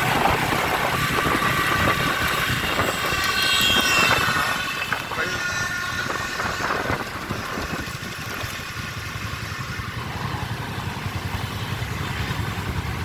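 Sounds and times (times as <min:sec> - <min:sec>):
motorbike engines rumbling: 0:00.0 - 0:13.0.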